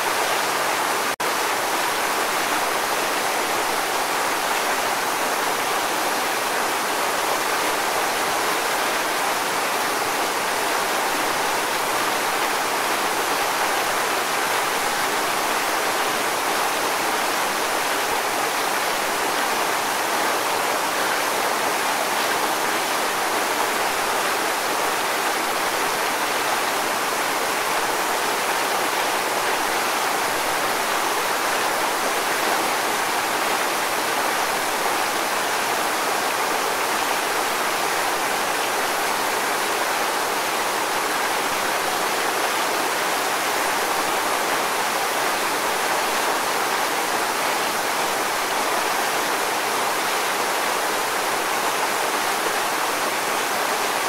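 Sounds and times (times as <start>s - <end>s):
waterfall rushing into pool: 0.0s - 54.0s.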